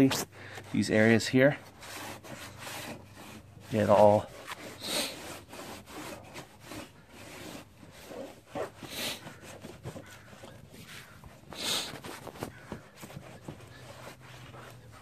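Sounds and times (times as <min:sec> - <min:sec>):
cloth wiping plastic panels: 0:00.0 - 0:15.0.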